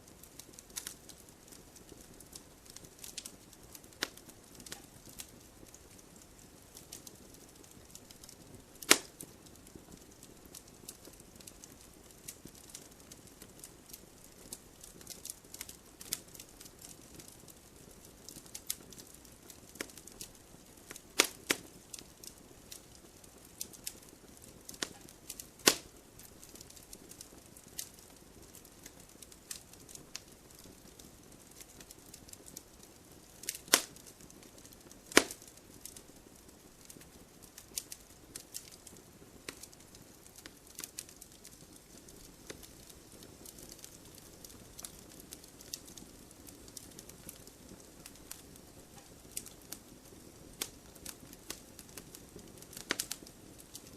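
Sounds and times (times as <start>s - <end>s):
wood fire crackling: 0.0s - 53.9s
sharp fire pops: 0.2s - 17.3s, 18.3s - 32.6s, 33.3s - 36.0s, 36.8s - 53.8s.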